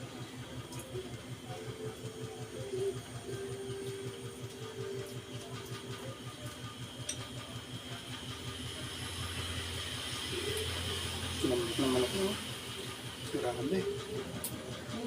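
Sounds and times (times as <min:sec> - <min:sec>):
pulsing machine hum: 0:00.0 - 0:15.0.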